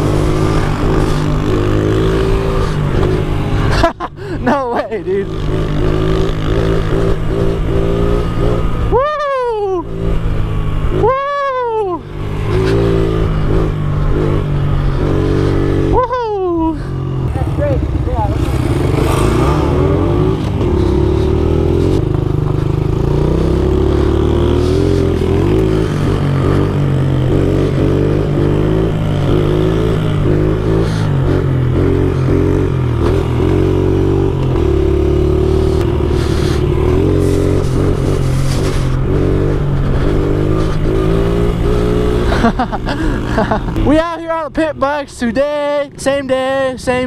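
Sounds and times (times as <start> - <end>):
small motorbike engine revving: 5.0 - 43.9.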